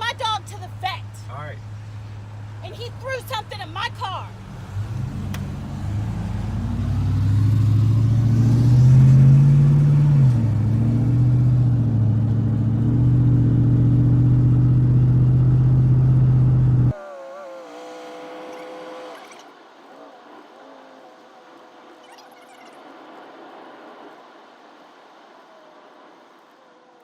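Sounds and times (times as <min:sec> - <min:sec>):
car engine revving: 0:04.3 - 0:26.9.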